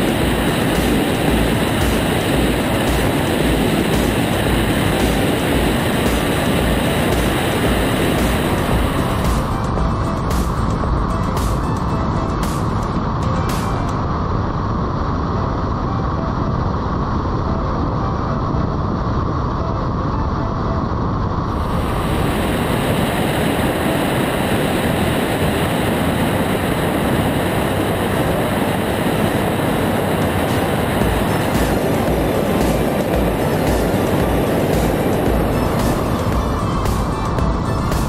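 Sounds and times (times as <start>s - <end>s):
light plane engine drone: 0.0s - 38.0s
wind rush: 0.0s - 38.0s.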